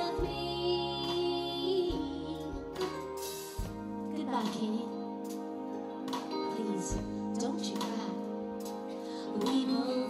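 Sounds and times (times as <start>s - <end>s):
woman singing a slow ballad: 0.0s - 5.3s, 6.2s - 10.0s
live band playing held chords: 0.0s - 10.0s.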